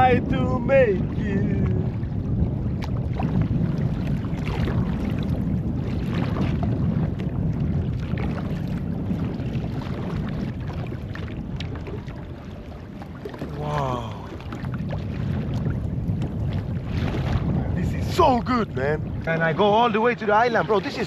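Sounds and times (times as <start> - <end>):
wind rumbling on microphone: 0.0 - 21.0
paddle splashing in water: 1.8 - 21.0.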